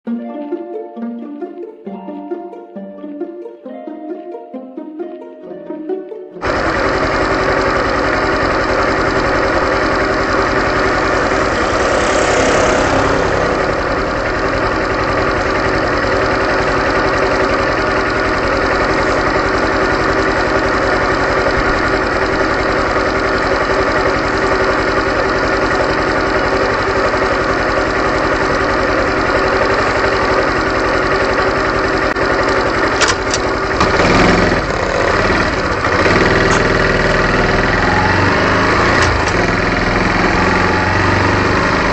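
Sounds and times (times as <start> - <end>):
small motorcycle engine running: 6.4 - 41.9.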